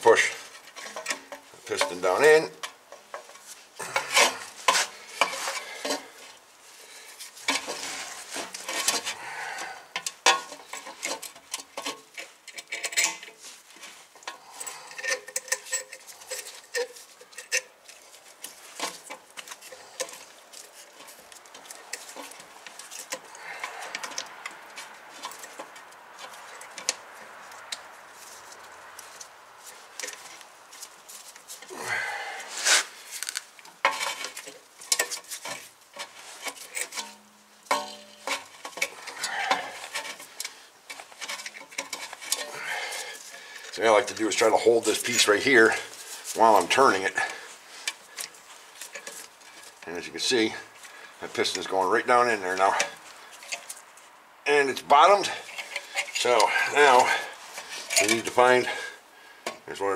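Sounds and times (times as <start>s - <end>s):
metallic clicks and scraping: 0.0s - 59.9s.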